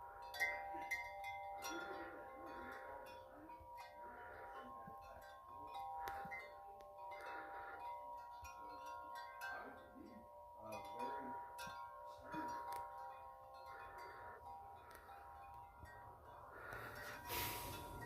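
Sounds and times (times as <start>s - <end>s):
wind chime ringing: 0.0s - 18.0s.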